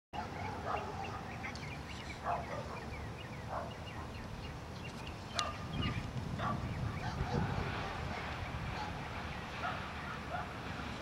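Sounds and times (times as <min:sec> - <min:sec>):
small birds chirping: 0:00.2 - 0:11.0
wind rumble: 0:00.6 - 0:11.0.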